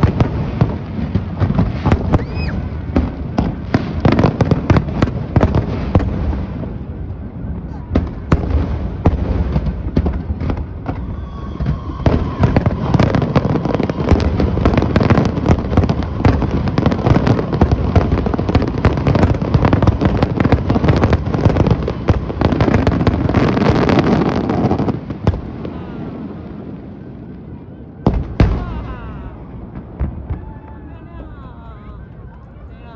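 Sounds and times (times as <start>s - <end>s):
fireworks bursting: 0.0s - 31.4s.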